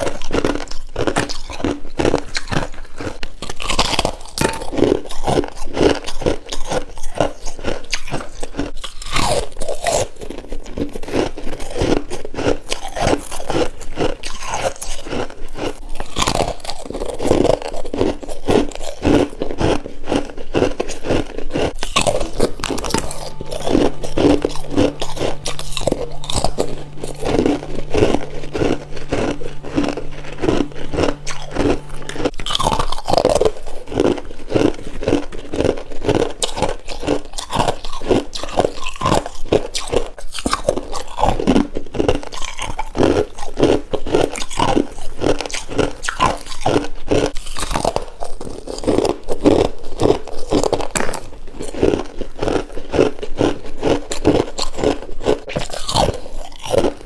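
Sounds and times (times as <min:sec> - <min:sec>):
crunching and chewing frost: 0:00.0 - 0:57.0.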